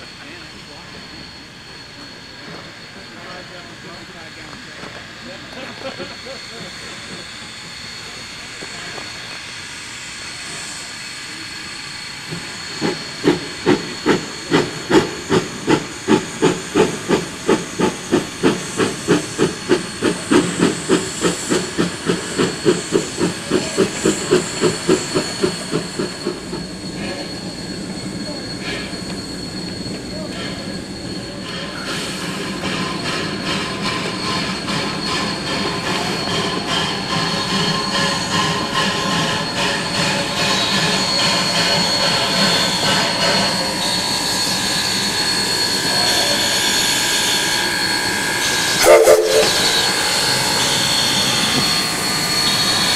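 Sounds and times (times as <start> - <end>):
steady steam hiss: 0.0 - 52.9
steam locomotive exhaust chuffs: 0.0 - 52.9
train rolling: 0.0 - 52.9.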